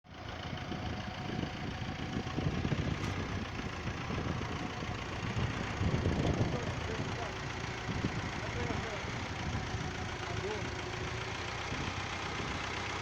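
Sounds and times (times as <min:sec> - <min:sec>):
forklift engine running: 0:00.1 - 0:13.0.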